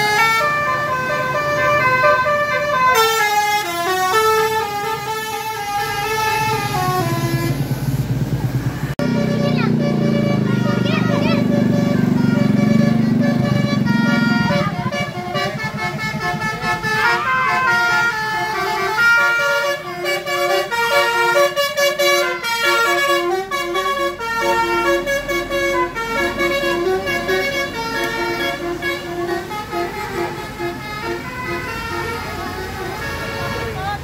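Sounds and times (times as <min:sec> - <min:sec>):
multi-tone bus horn tune: 0:00.0 - 0:08.0, 0:08.8 - 0:34.0.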